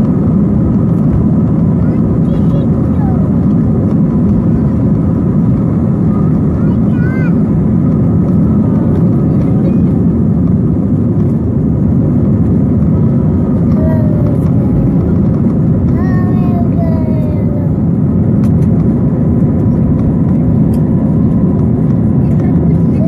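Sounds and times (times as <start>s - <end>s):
jet engines rumbling in cabin: 0.0s - 23.0s.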